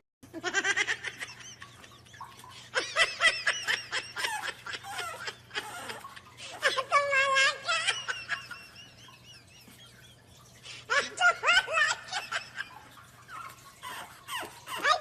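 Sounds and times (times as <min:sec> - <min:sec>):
people laughing: 0:00.4 - 0:12.9.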